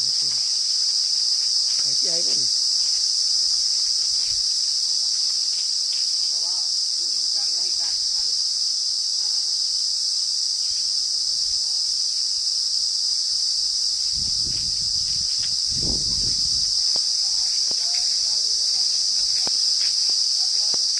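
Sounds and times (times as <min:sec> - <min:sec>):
insect high-pitched drone: 0:00.0 - 0:20.9.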